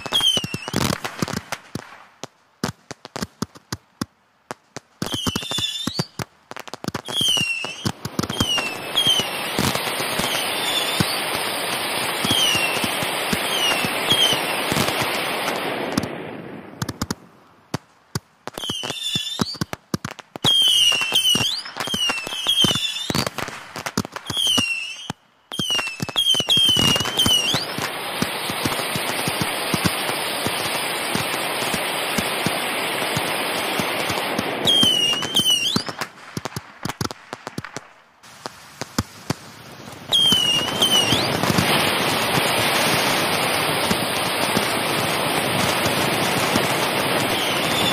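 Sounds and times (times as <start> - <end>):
firework whistles: 0.0 - 2.0, 5.0 - 6.3, 6.9 - 17.1, 18.5 - 19.8, 20.4 - 47.9
firework bangs: 0.0 - 47.9
firework crackling: 0.0 - 47.9.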